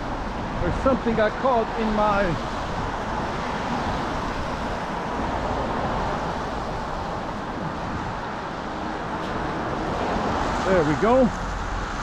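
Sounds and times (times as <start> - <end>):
traffic rushing: 0.0 - 12.0
wind: 0.0 - 12.0.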